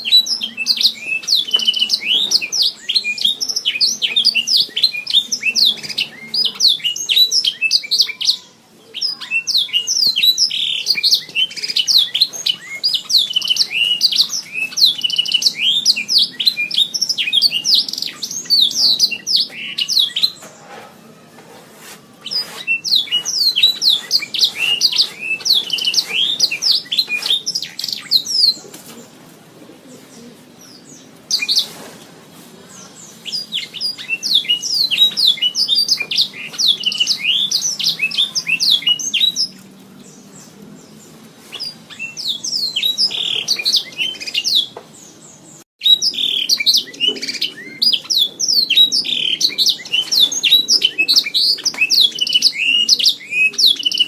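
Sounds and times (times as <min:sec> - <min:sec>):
canary singing chirps and trills: 0:00.0 - 0:21.4, 0:22.2 - 0:29.2, 0:30.0 - 0:31.9, 0:32.7 - 0:54.0.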